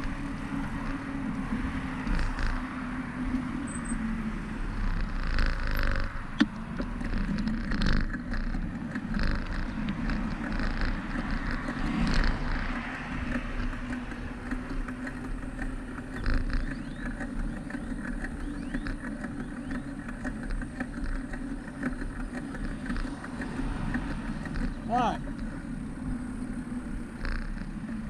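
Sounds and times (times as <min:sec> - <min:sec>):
street traffic noise: 0:00.0 - 0:28.0.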